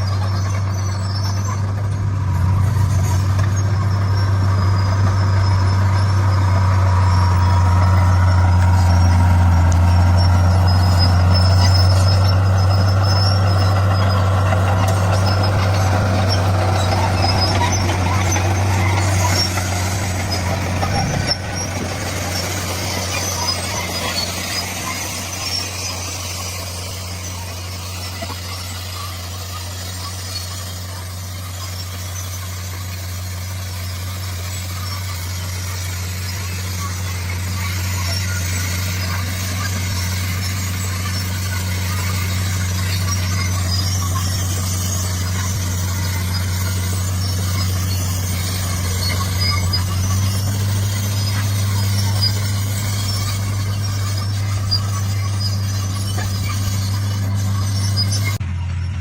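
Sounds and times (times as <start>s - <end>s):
bulldozer diesel engine: 0.0s - 59.0s
metallic track squeaks: 0.0s - 59.0s.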